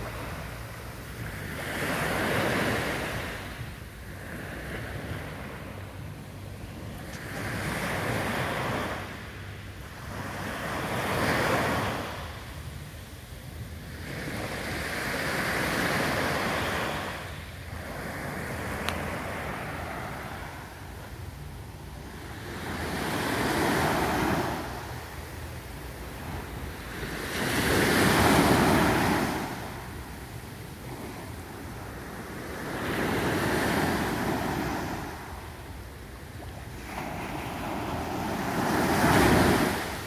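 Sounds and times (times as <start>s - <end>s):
small waves breaking on beach: 0.0s - 12.5s, 13.8s - 21.1s, 22.0s - 40.0s.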